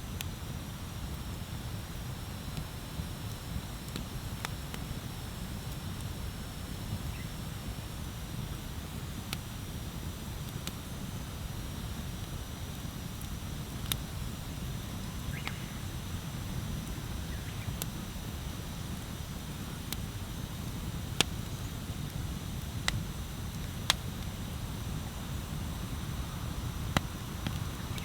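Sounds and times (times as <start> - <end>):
wood fire crackling: 0.1 - 7.2, 8.1 - 28.0.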